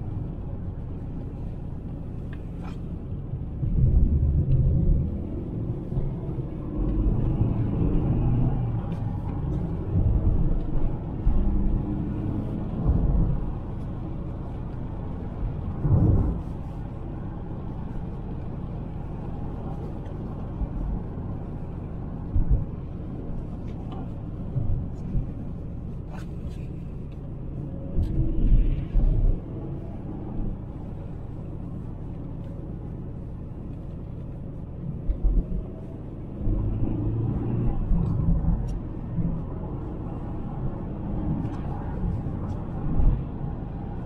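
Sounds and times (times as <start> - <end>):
road rumble: 0.0 - 44.0.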